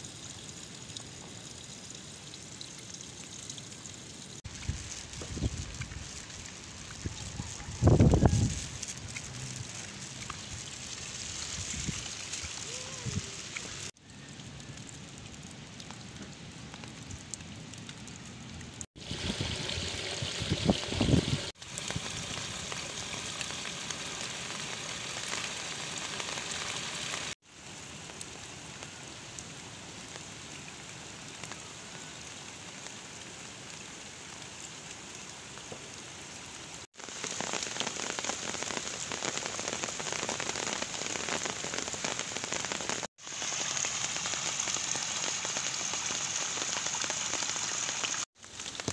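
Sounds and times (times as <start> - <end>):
heavy rain on water: 4.0 - 48.9.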